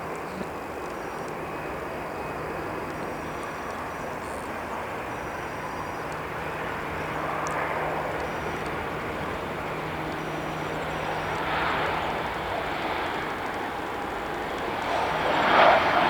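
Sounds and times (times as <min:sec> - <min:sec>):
distant jet engines rushing: 0:00.0 - 0:16.0.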